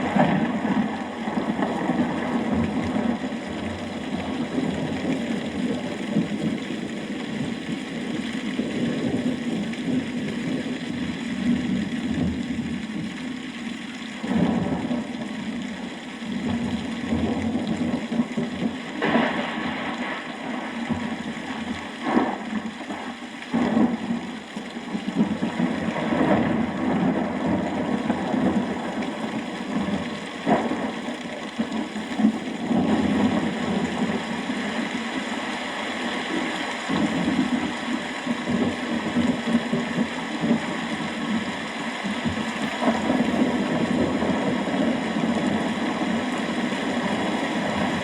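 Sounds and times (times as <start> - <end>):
raindrops tapping: 0.0 - 48.0
steady rain falling: 0.0 - 48.0.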